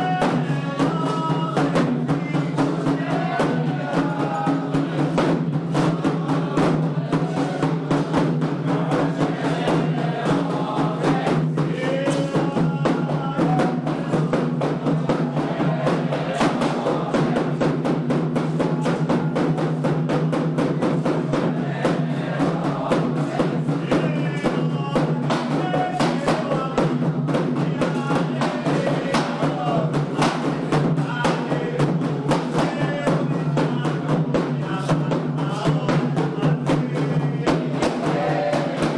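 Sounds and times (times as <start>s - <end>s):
hand drums beating fast rhythm: 0.0s - 38.9s
voices singing chants: 0.0s - 38.9s.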